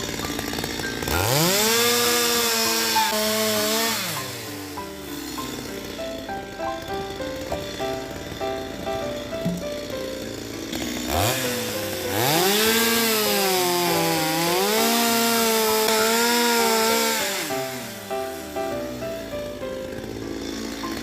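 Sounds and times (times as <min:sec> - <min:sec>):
chainsaw cutting a log: 0:00.0 - 0:21.0.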